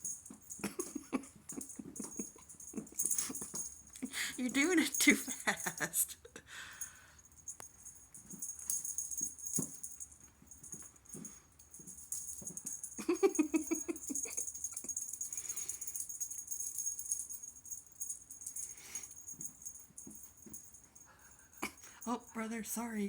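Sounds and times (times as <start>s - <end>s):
rattling toy shaken: 0.0s - 6.0s, 7.3s - 22.5s.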